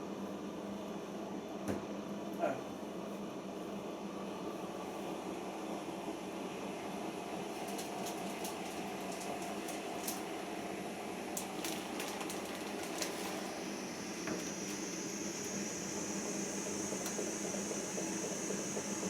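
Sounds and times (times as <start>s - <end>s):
washing machine whirring: 0.1s - 19.0s.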